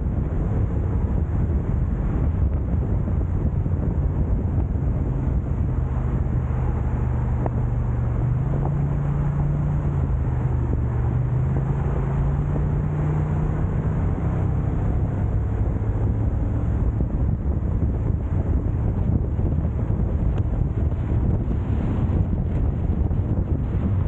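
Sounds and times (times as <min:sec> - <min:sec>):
car engine and road drone: 0:00.0 - 0:24.0
wind rumble: 0:00.0 - 0:24.0.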